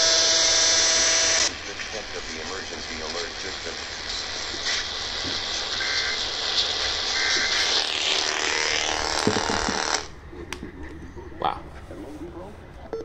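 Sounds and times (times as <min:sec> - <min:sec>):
radio static hiss: 0:00.0 - 0:11.3.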